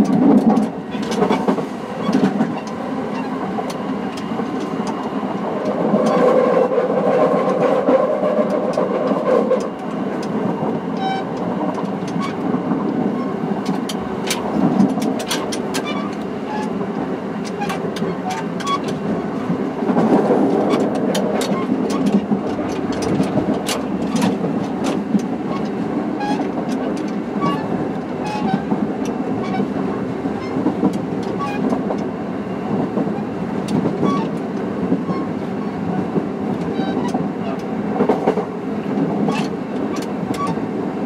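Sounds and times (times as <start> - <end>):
electric train rumble: 0.0 - 41.0.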